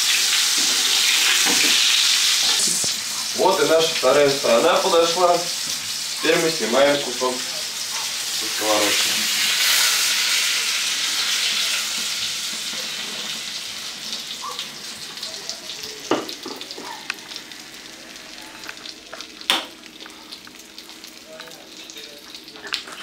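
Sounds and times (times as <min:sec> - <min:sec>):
meat sizzling in a frying pan: 0:00.0 - 0:23.0.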